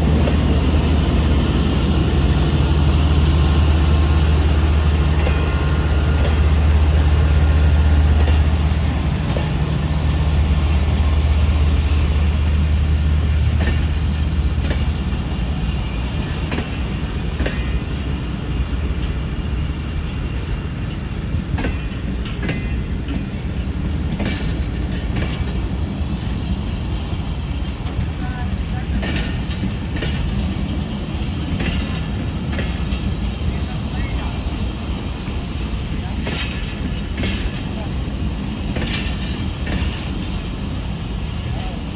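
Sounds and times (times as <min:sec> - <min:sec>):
diesel locomotive drone: 0:00.0 - 0:41.9
train wheels clacking over rail joints: 0:00.0 - 0:41.9.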